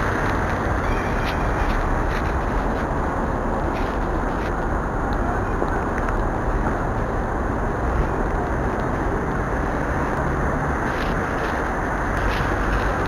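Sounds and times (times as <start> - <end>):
roadside traffic rush: 0.0 - 13.0.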